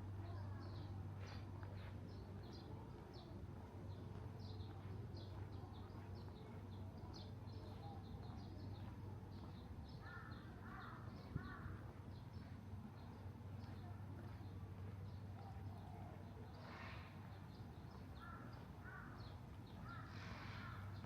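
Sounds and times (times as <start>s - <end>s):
small birds chirping: 0.1s - 21.0s.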